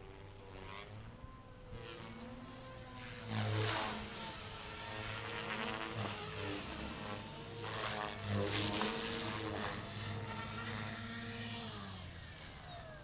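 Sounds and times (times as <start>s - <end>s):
rc helicopter rotor whir: 0.0s - 13.0s.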